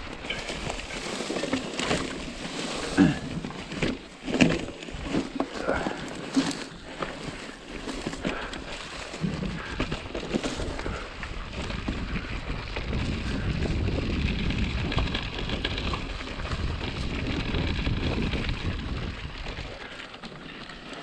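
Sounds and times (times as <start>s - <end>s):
wind rumbling on microphone: 0.0s - 20.6s
bike knocks and rattles: 0.0s - 21.0s
bike tyres on dirt: 0.0s - 21.0s.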